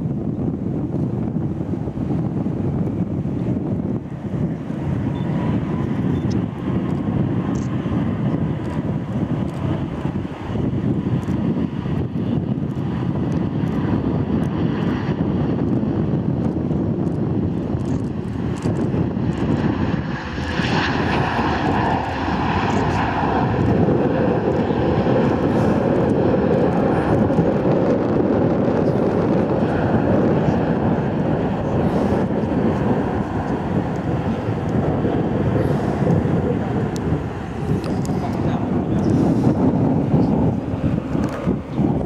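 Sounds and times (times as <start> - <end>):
jet airliner engines rumbling: 0.0 - 42.0
jet engine whine: 0.0 - 42.0.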